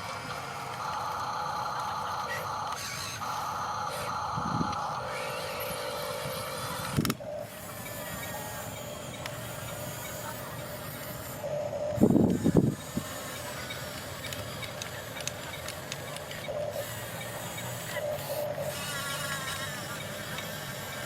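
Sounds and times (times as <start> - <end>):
small electric motors whirring: 0.0 - 21.0.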